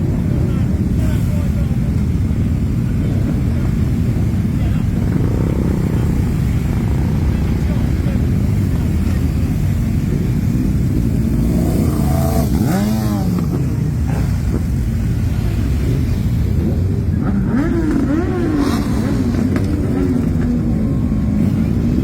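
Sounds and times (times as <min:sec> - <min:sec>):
motorcycle engines droning: 0:00.0 - 0:22.0.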